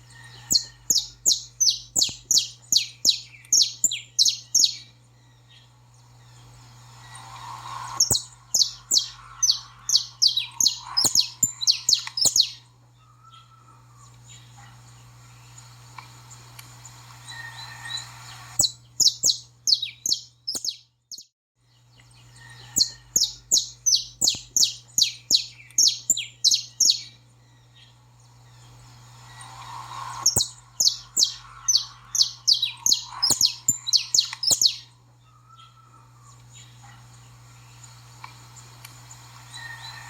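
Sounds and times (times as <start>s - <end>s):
low hum: 0.0s - 20.0s, 22.0s - 40.0s.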